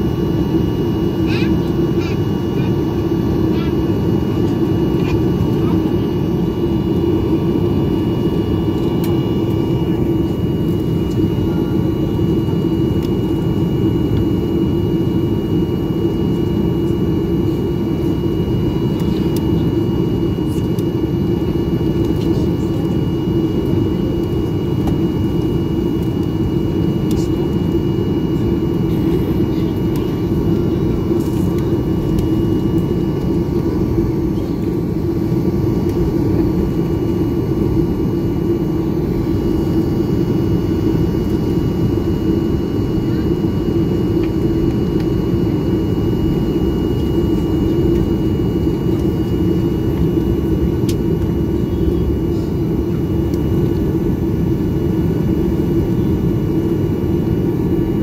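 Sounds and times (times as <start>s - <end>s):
high engine whine: 0.0s - 58.0s
jet engines rumbling: 0.0s - 58.0s.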